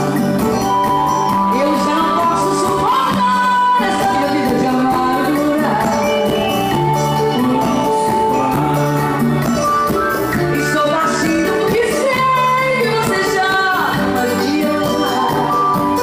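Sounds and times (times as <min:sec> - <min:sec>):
hand percussion: 0:00.0 - 0:16.0
latin-style band music: 0:00.0 - 0:16.0
person singing: 0:00.0 - 0:16.0.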